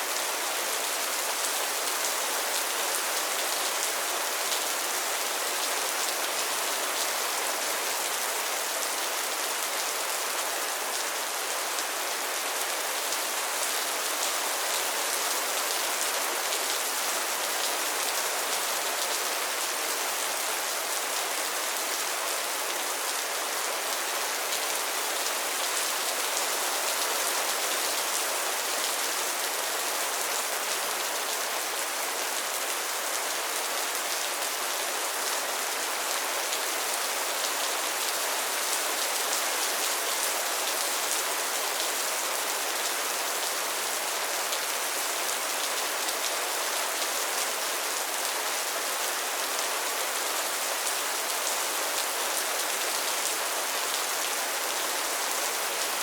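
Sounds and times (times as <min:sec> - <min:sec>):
rain falling on pond water: 0:00.0 - 0:56.0.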